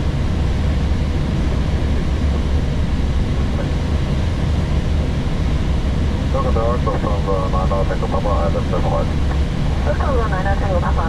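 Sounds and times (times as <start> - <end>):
aircraft engine low rumble: 0.0 - 11.0.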